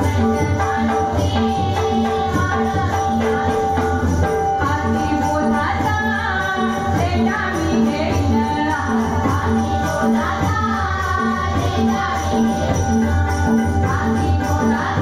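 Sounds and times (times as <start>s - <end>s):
jingling percussion: 0.0s - 15.0s
women singing devotional song: 0.0s - 15.0s.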